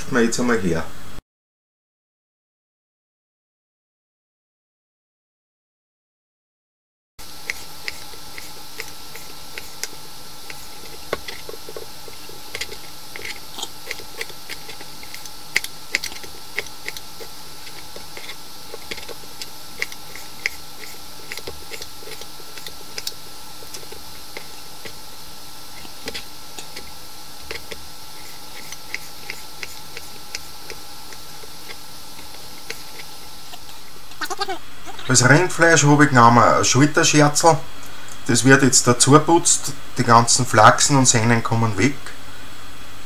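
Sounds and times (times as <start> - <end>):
background hum: 7.2 - 43.0.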